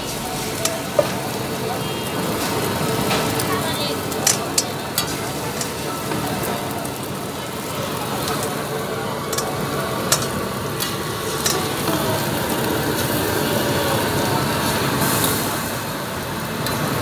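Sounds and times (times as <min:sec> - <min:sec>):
eggs sizzling on a griddle: 0:00.0 - 0:17.0.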